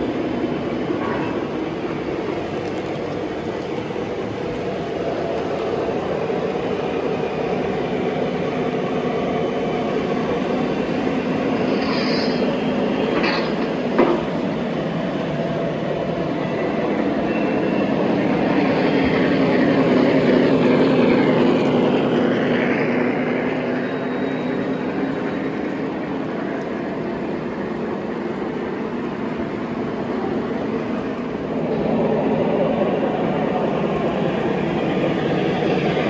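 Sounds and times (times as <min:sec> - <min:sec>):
model trains rolling rumble: 0:00.0 - 0:36.0.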